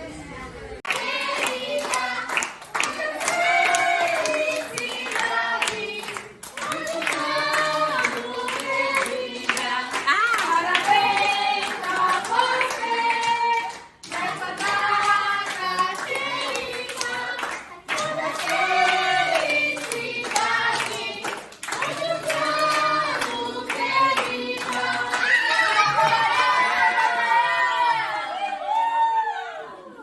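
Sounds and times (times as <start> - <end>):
hand clapping: 0.9 - 26.4
voices singing: 0.9 - 28.5.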